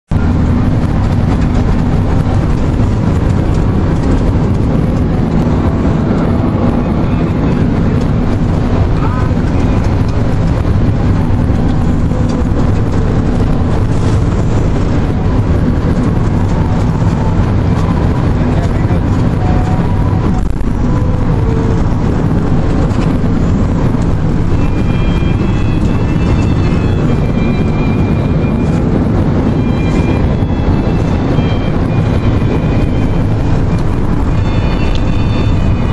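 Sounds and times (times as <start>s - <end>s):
car road noise: 0.0s - 35.9s.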